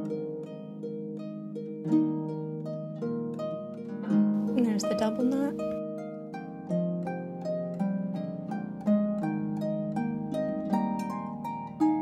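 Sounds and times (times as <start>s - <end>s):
harp music: 0.0s - 12.0s.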